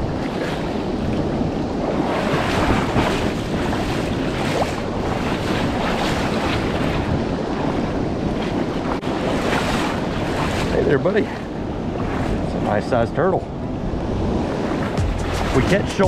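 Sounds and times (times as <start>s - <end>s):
river water splashing: 0.0s - 16.0s
wind buffeting microphone: 0.0s - 16.0s.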